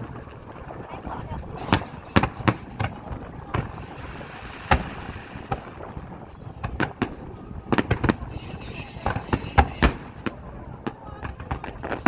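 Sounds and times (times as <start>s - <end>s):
fireworks bangs: 0.0s - 12.0s
wind buffeting microphone: 0.0s - 12.0s.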